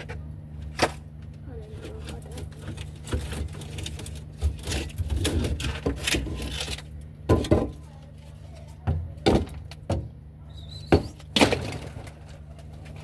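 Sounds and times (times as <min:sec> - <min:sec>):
objects scraping and rustling: 0:00.0 - 0:09.8, 0:10.5 - 0:13.0.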